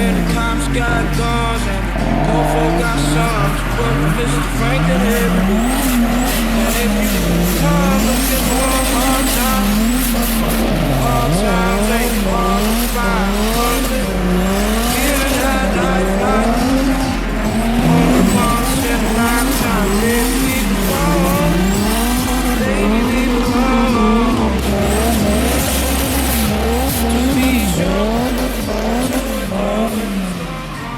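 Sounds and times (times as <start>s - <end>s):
car engine revving: 0.0s - 30.9s
tire squeal and skidding: 0.0s - 30.9s.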